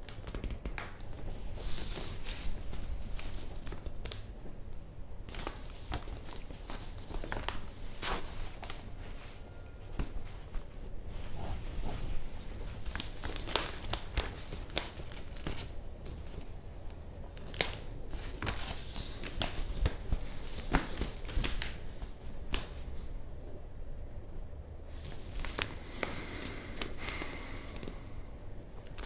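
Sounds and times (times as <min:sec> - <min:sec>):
newspaper pages rustling: 0:00.0 - 0:04.3, 0:05.3 - 0:23.2, 0:24.9 - 0:27.3, 0:28.8 - 0:29.0.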